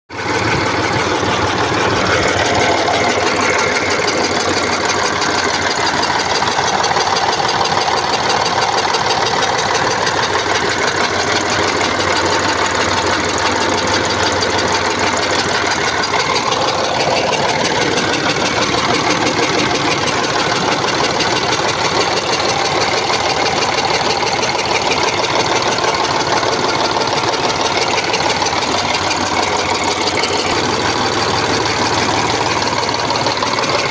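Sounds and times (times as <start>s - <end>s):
engine idling with a knock: 0.1s - 33.9s.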